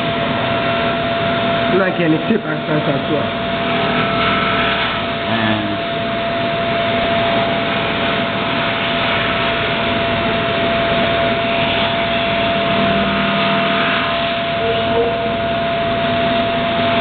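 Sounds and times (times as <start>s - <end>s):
constant machine whine: 0.0s - 17.0s
milling machine running: 0.0s - 17.0s.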